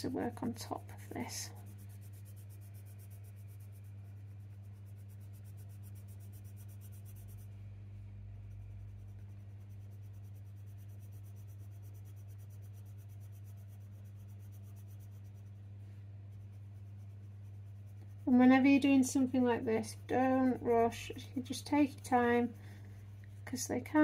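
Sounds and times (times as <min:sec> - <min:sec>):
pencil scratching on paper: 0:00.0 - 0:07.6, 0:08.3 - 0:24.0
low hum: 0:00.0 - 0:24.0.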